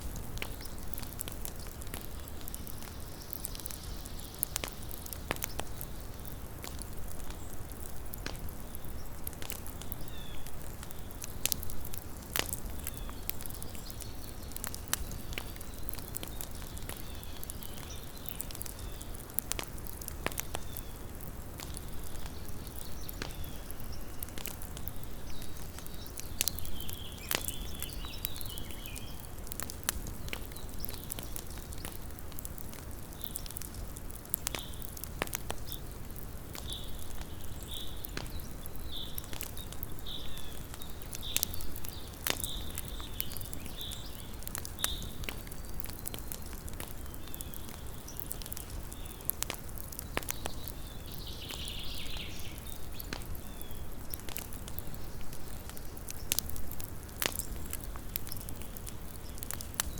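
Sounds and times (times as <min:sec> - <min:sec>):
burning wood popping and snapping: 0:00.0 - 0:59.9.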